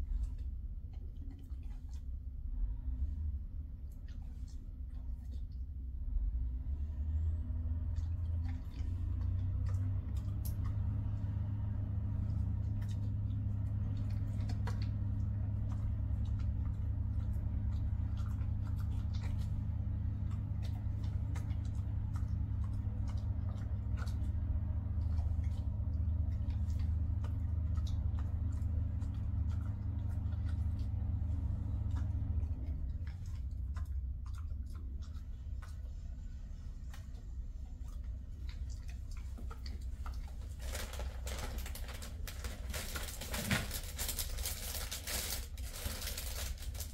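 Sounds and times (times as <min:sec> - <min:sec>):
low machine hum: 0:00.0 - 0:46.9.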